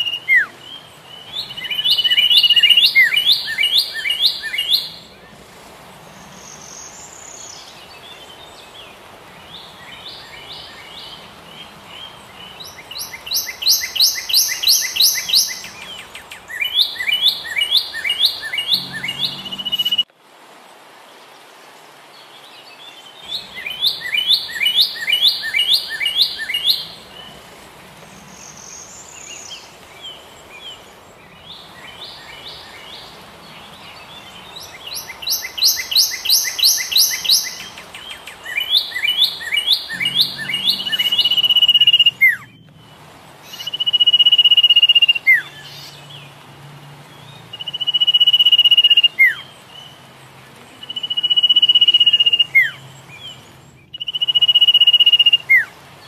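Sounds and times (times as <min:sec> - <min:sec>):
faint steady hiss: 0:00.0 - 0:56.0
songbird chirping: 0:00.0 - 0:56.0.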